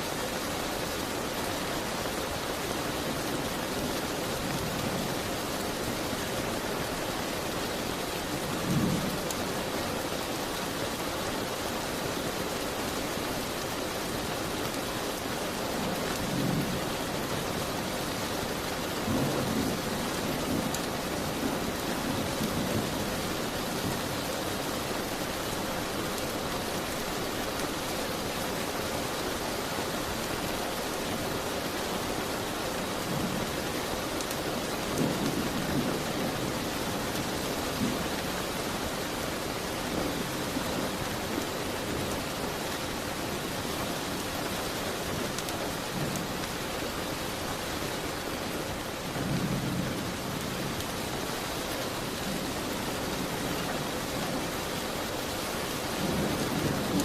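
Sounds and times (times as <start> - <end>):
rain on window and roof: 0.0 - 57.0.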